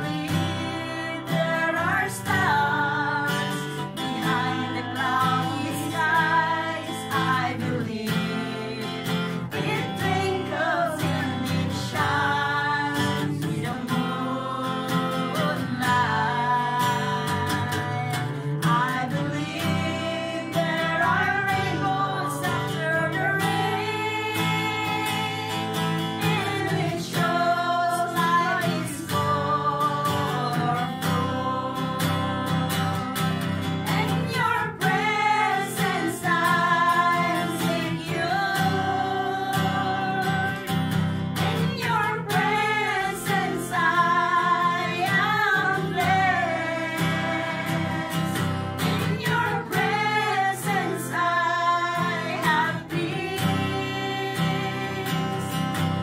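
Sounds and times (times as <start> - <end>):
acoustic guitar strumming: 0.0 - 56.0
women singing worship song: 0.0 - 56.0.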